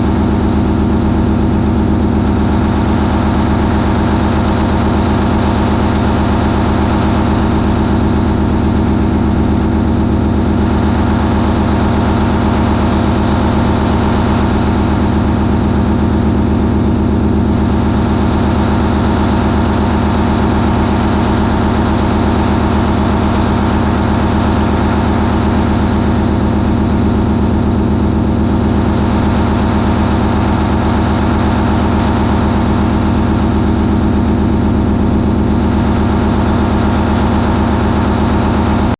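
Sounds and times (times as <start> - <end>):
diesel engine running loud: 0.0 - 38.9.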